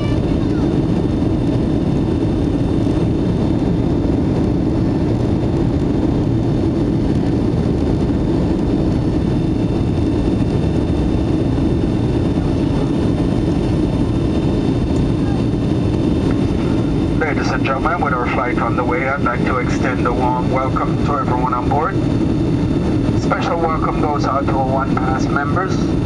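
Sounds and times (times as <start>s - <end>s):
jet engine drone in cabin: 0.0s - 26.0s.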